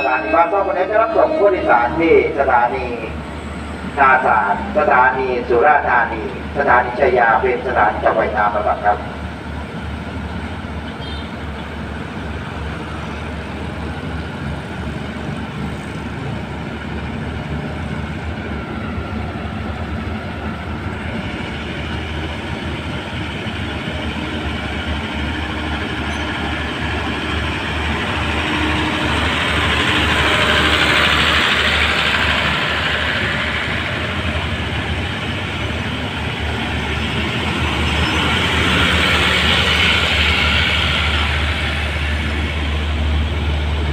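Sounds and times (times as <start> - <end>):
train rolling past: 0.0 - 43.9.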